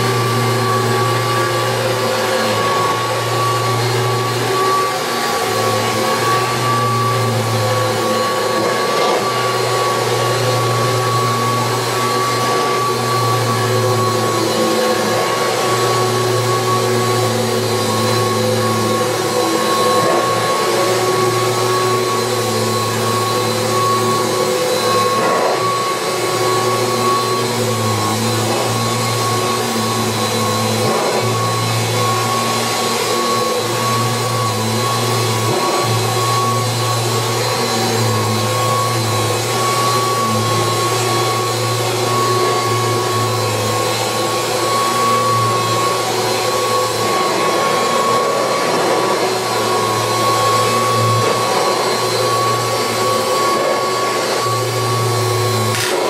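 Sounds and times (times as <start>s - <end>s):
vacuum cleaner high whine: 0.0s - 56.0s.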